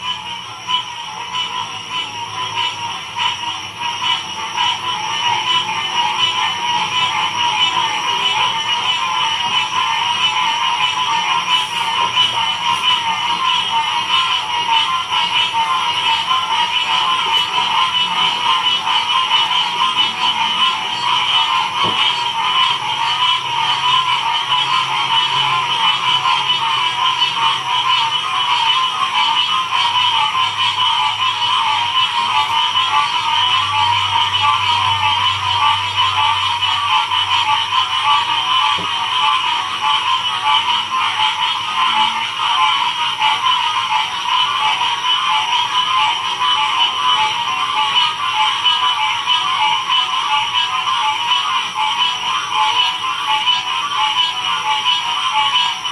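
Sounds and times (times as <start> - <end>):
frogs chorus: 0.0 - 55.9.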